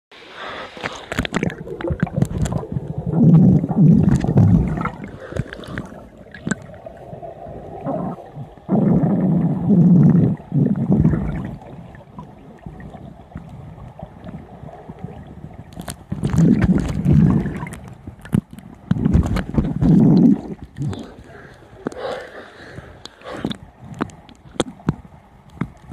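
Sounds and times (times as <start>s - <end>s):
underwater bubbling: 0.2s - 25.9s
faint clicks and crackle: 0.6s - 25.9s.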